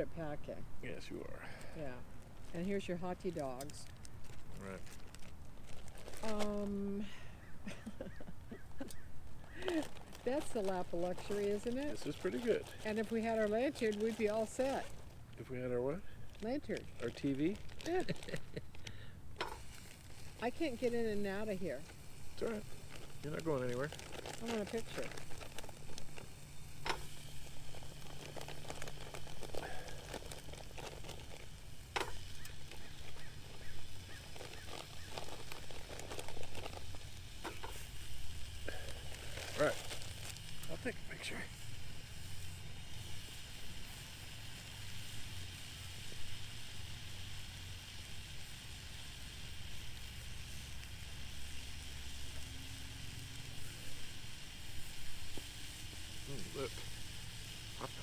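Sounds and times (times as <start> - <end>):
hot dogs sizzling in a pan: 0.0 - 58.0.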